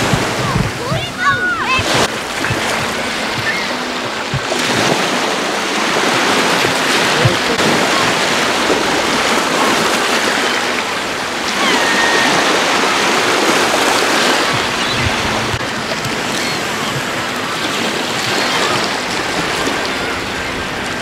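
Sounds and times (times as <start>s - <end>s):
gull calling: 0.0s - 21.0s
small waves breaking on shore: 0.0s - 21.0s.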